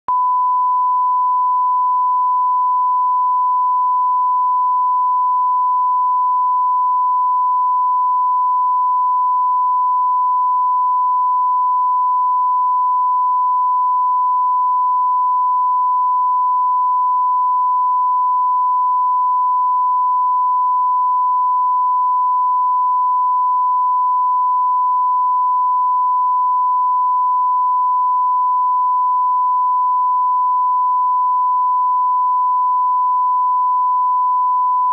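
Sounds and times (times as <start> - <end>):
steady sine-wave tone: 0.1 - 34.9.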